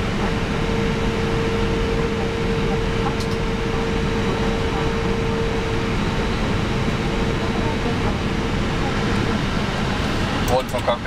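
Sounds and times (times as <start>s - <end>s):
steady mid-pitched hum: 0.0s - 11.0s.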